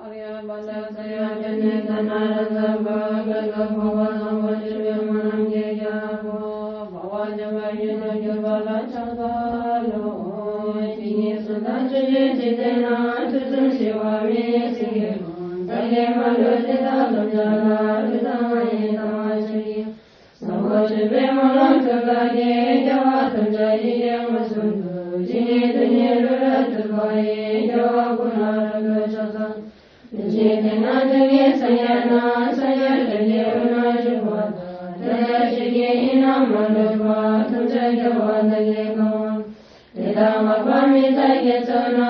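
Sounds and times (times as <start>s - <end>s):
melodic chanting: 0.0s - 42.0s.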